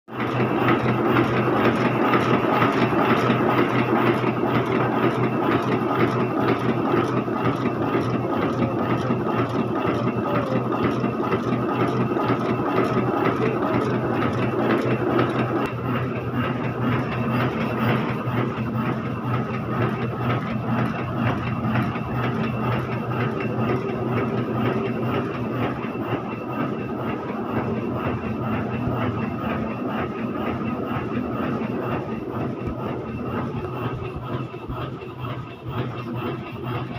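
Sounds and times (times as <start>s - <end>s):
low running hum: 0.1s - 36.9s
printing press clatter: 0.1s - 36.9s.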